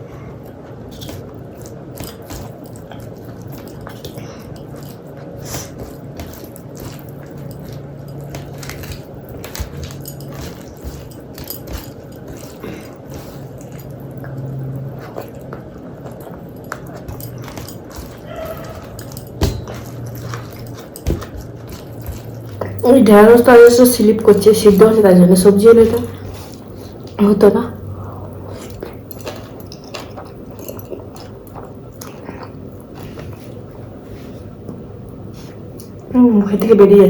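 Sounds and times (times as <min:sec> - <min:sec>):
wet mouth eating sounds: 0:00.0 - 0:22.9, 0:25.9 - 0:36.1
steady low hum: 0:00.0 - 0:37.0.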